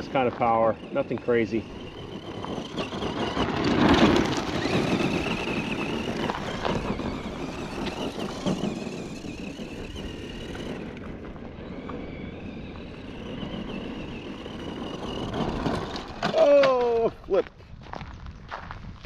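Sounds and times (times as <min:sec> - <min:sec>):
toy truck motor whining: 0:00.0 - 0:17.0
tyres crunching on gravel: 0:00.0 - 0:19.0.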